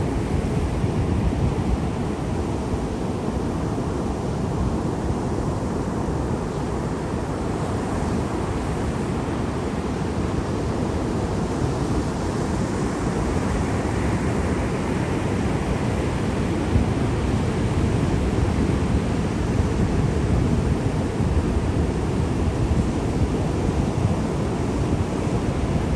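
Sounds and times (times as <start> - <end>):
sea waves breaking on shore: 0.0 - 25.9
wind on microphone: 0.0 - 25.9.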